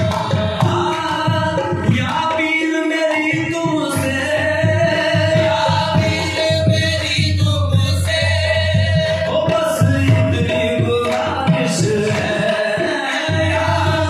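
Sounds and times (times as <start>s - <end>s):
men singing together: 0.0s - 14.0s
steady drum beats: 0.0s - 14.0s.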